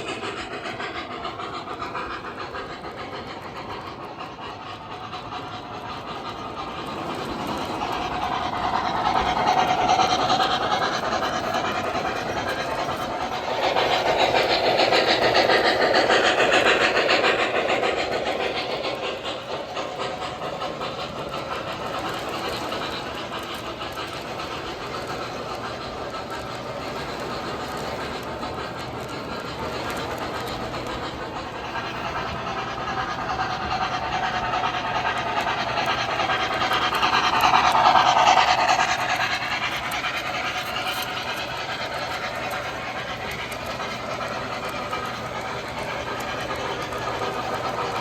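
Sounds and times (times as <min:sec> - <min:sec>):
model train wheels rumbling: 0:00.0 - 0:48.0.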